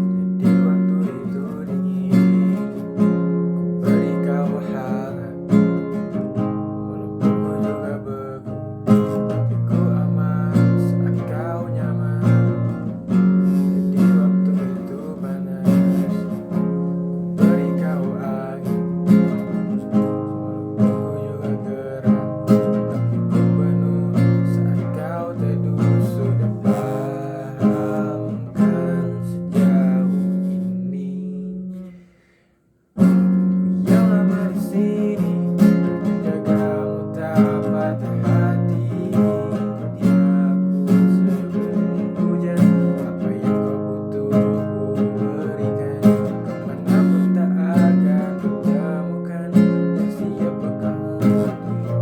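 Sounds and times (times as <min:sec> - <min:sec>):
acoustic guitar strumming chords: 0:00.0 - 0:52.0.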